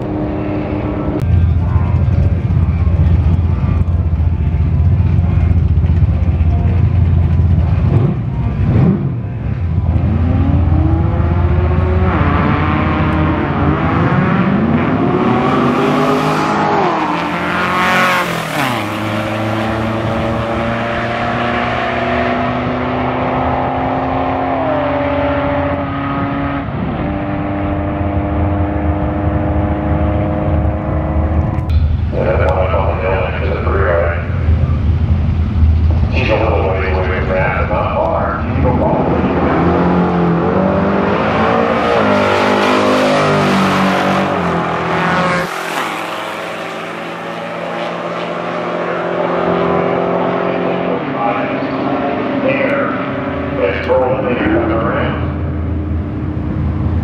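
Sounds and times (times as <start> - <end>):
drag car engine revving: 0.0 - 57.0.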